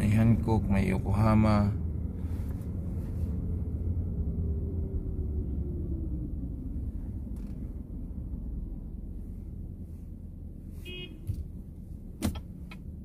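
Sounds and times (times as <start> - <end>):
vehicle driving rumble from cabin: 0.0 - 13.0.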